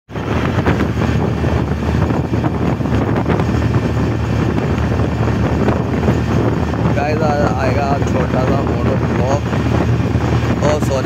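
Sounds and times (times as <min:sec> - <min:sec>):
auto-rickshaw engine drone: 0:00.1 - 0:11.0
road noise: 0:00.1 - 0:11.0
wind on microphone: 0:00.1 - 0:11.0.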